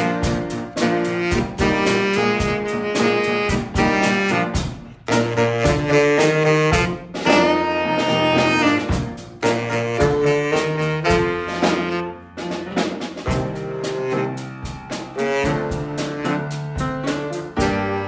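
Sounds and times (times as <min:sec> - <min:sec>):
bass guitar: 0:00.0 - 0:18.0
drum kit beat: 0:00.0 - 0:18.0
saxophone melody: 0:00.0 - 0:18.0.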